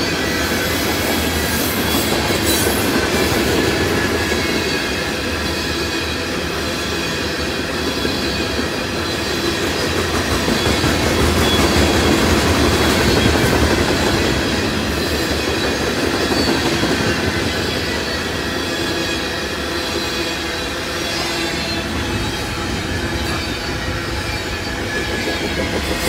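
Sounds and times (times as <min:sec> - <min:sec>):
freight train wheels rumbling on rail: 0:00.0 - 0:26.0.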